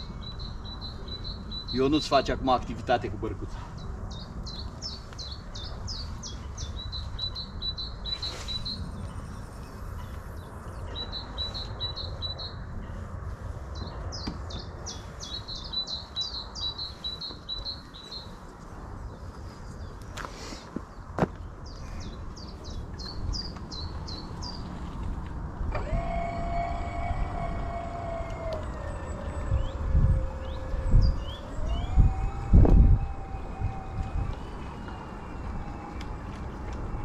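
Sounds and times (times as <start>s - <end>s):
songbird singing: 0.0s - 37.0s
wind rumble on microphone: 0.0s - 37.0s.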